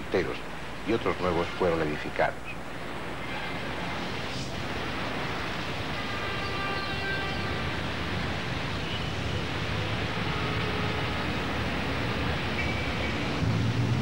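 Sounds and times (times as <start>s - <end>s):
traffic hiss: 0.0s - 14.0s
bus and truck engines rumbling: 2.6s - 14.0s.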